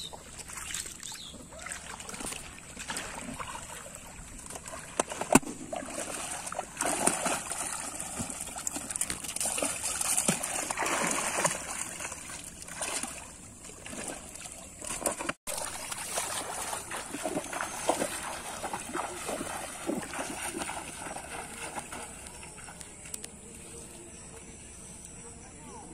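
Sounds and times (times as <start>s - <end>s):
water splashing around wading legs: 0.0s - 23.2s.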